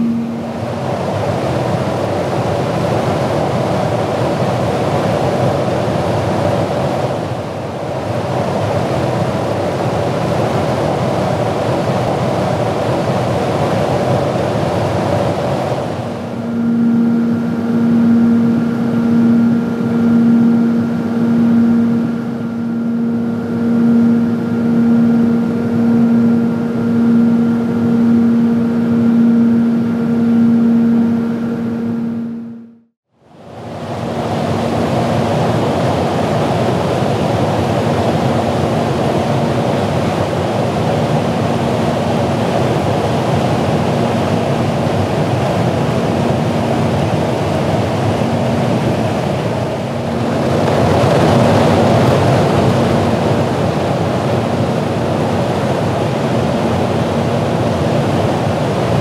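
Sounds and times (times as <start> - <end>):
aircraft engine drone: 0.0 - 32.9, 33.6 - 59.0.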